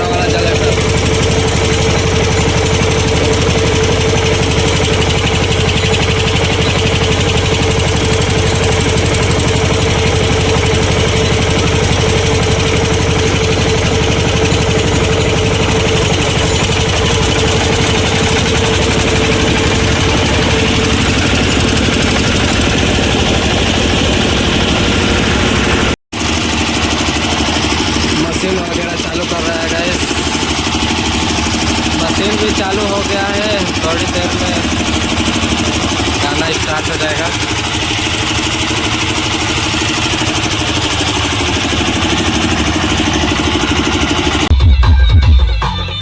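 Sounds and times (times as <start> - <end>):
generator engine running: 0.0 - 46.0.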